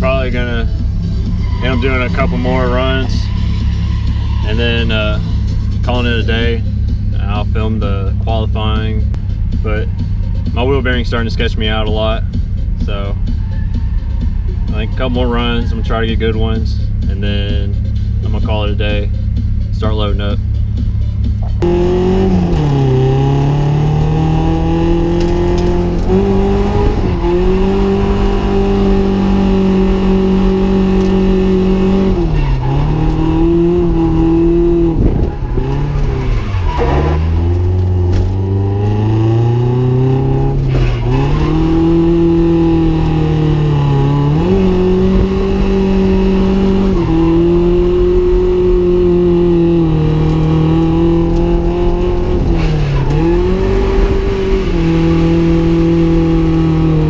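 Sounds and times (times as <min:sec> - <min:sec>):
car engine at high revs: 0:00.0 - 0:13.4, 0:14.2 - 0:57.0.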